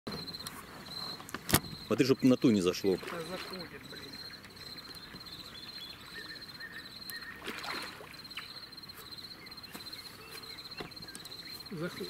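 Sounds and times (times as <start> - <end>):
pulsing insect trill: 0.1 - 12.0.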